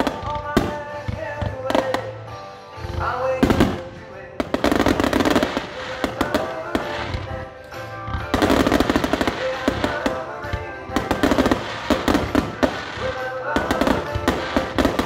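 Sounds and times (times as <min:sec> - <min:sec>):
fireworks bursting: 0:00.0 - 0:15.0
show music: 0:00.0 - 0:15.0.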